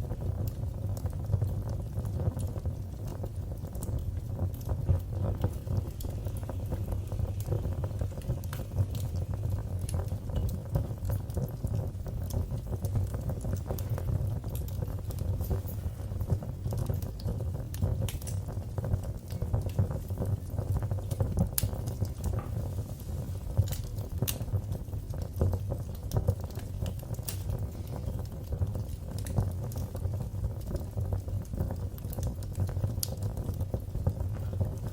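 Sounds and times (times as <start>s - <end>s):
low steady rumble: 0.0s - 34.9s
wood fire crackling and popping: 0.0s - 34.9s.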